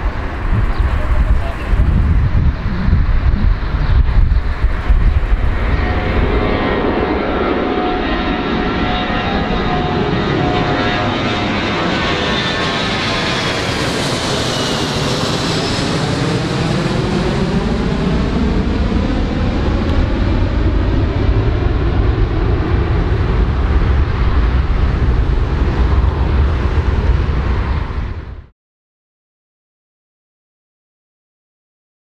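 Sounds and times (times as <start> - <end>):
jet airliner roar: 0.0 - 28.5
jet engine whine: 0.0 - 28.5.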